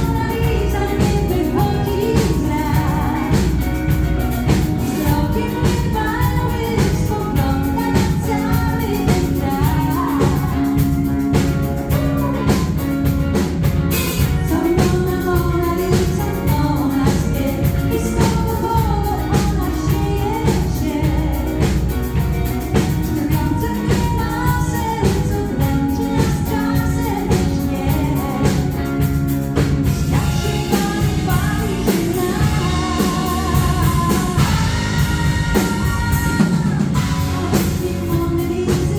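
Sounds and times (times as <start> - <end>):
live pop band playing: 0.0 - 38.9
woman singing: 0.0 - 38.9.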